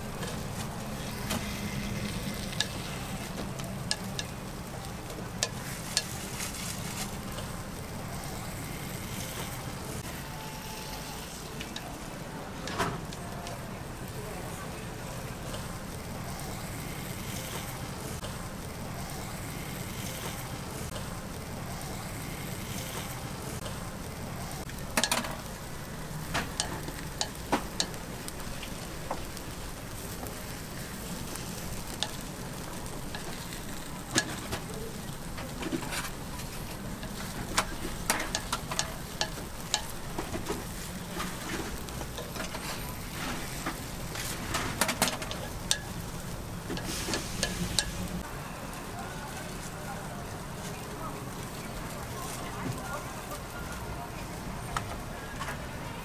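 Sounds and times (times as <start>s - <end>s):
cakes sizzling in a hot mold: 0.0s - 56.0s.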